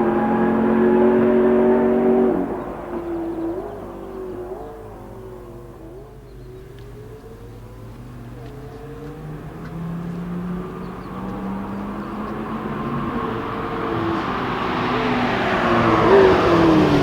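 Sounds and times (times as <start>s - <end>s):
car engine approaching: 0.0s - 17.0s.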